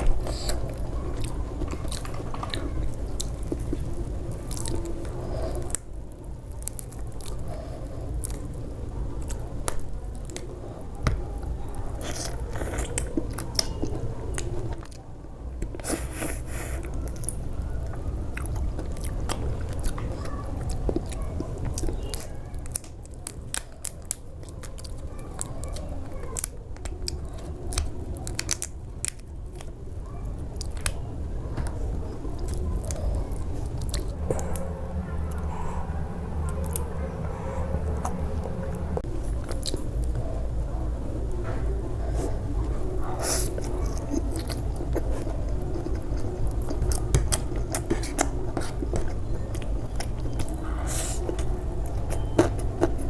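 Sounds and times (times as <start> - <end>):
person chewing and crunching food: 0.0 - 53.0.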